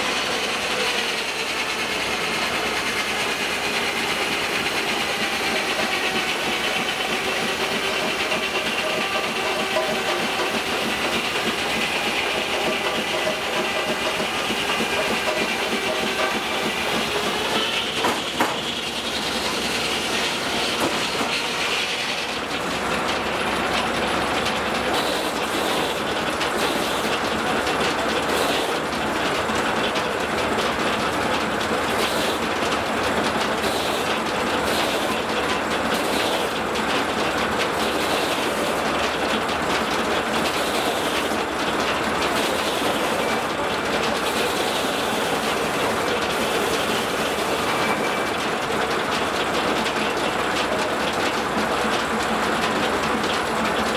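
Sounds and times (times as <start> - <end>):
sawmill machinery clatter: 0.0 - 53.9.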